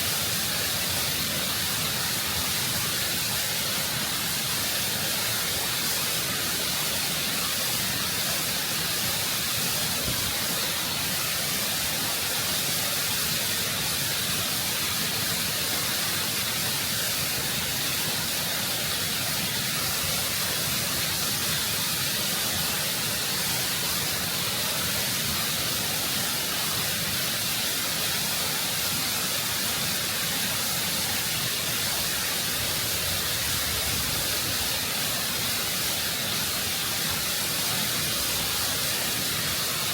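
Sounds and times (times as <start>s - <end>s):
waterfall rushing over rock: 0.0s - 39.9s.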